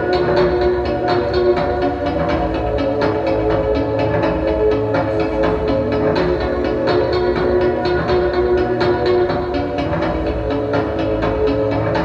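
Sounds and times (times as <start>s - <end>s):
synth-pop music: 0.0s - 12.0s.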